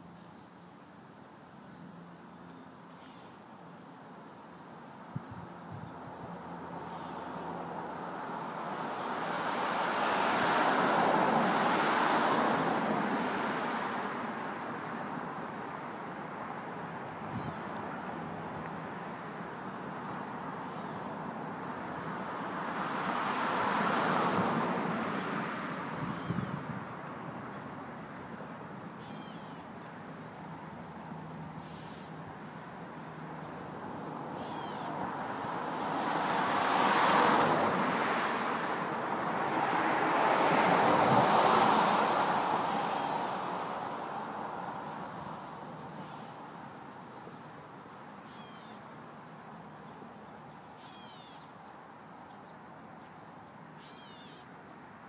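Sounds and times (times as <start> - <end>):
crickets chirping: 0.0 - 55.0
vehicles passing on road: 0.0 - 55.0.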